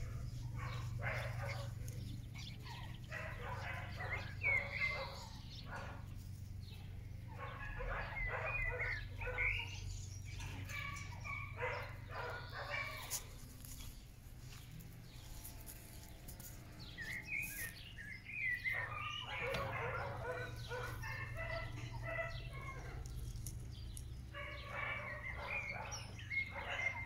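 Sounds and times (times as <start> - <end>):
puppies yapping and barking: 0.0 - 27.0.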